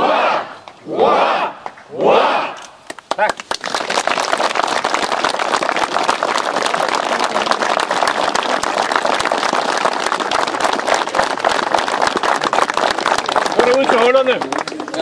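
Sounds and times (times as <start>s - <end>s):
crowd applauding: 2.9s - 15.0s.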